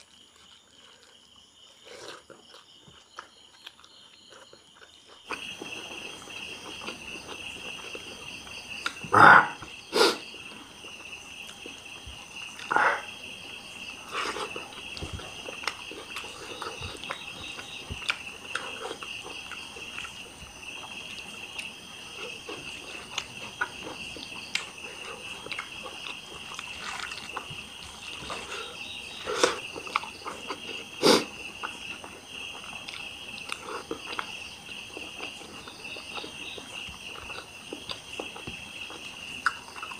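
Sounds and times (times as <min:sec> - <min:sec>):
person eating rice by hand: 0:00.0 - 0:09.3, 0:11.4 - 0:39.9
crickets chirring: 0:00.0 - 0:39.9.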